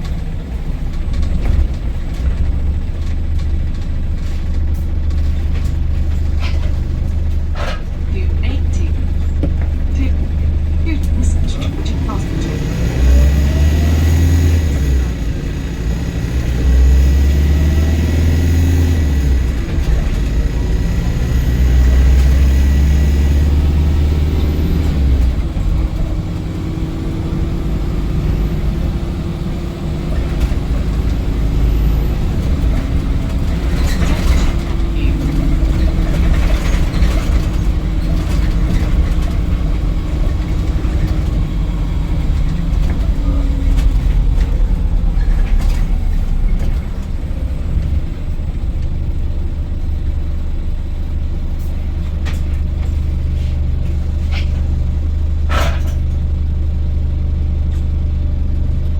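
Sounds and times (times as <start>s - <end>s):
bus diesel engine running hard: 0.0s - 58.9s.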